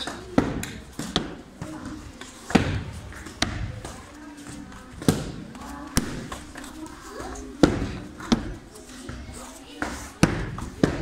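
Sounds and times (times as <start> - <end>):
children chattering: 0.0 - 11.0.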